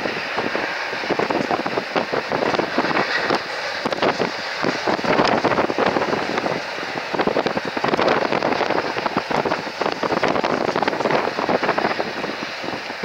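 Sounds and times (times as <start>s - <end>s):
train wheels rushing on rail: 0.0s - 13.0s.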